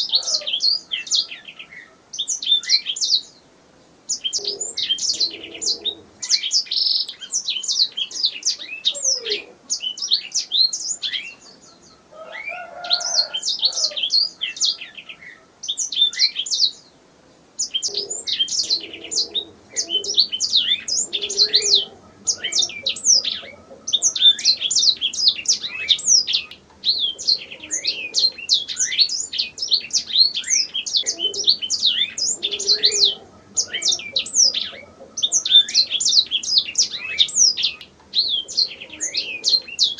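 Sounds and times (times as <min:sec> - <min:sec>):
canary singing trilled phrases: 0:00.0 - 0:03.4, 0:04.1 - 0:16.9, 0:17.6 - 0:39.9.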